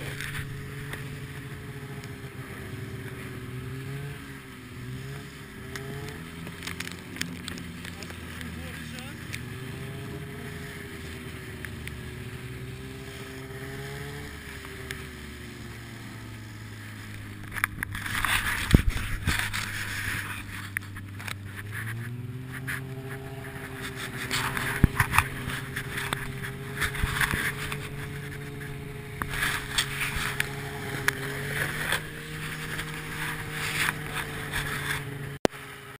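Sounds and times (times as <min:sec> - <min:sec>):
snowmobile engine running: 0:00.0 - 0:36.0.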